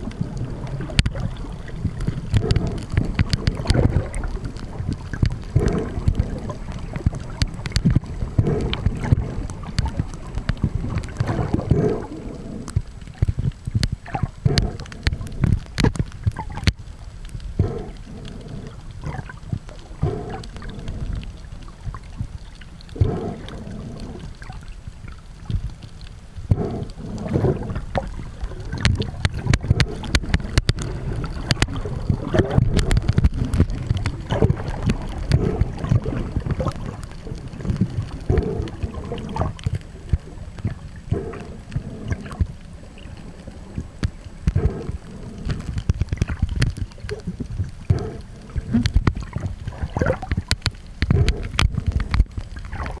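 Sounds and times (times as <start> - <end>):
muffled underwater sloshing: 0.0 - 53.0.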